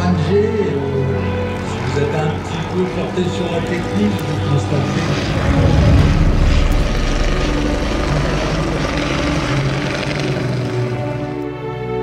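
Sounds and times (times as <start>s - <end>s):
propeller aircraft engines overhead: 0.0s - 12.0s.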